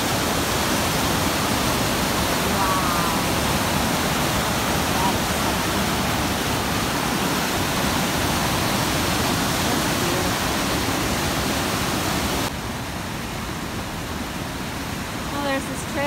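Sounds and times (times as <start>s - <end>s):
waterfall and rapids rushing: 0.0s - 16.0s.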